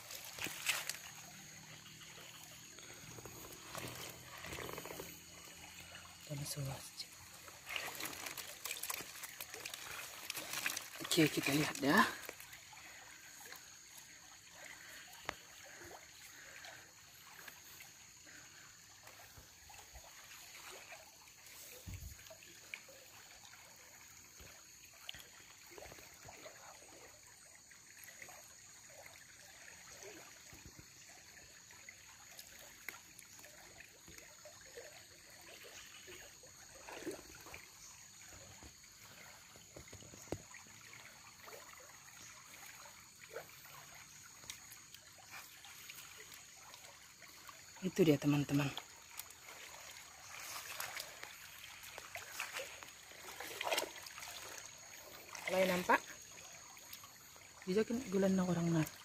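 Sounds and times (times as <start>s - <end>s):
stream trickling: 0.0s - 59.0s.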